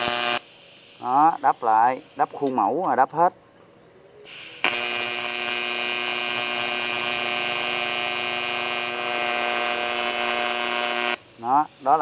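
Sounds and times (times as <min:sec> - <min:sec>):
welding arc buzzing: 0:00.0 - 0:02.6, 0:04.2 - 0:12.0.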